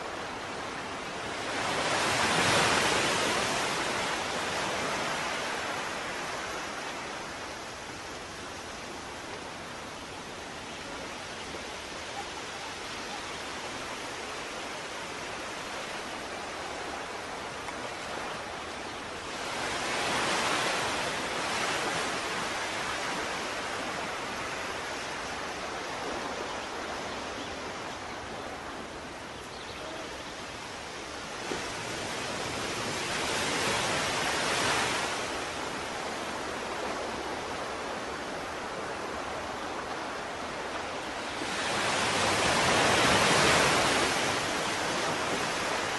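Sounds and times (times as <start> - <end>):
ocean waves washing: 0.0 - 45.9.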